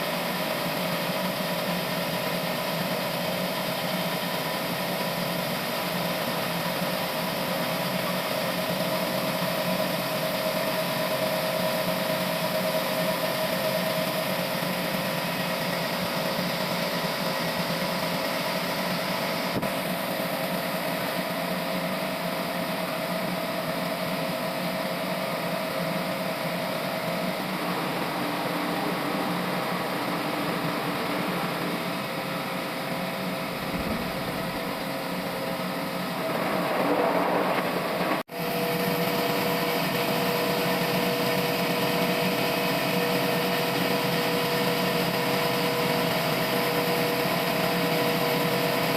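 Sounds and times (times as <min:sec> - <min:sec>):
machine whine: 0:00.0 - 0:48.9
sawmill machine drone: 0:00.0 - 0:48.9.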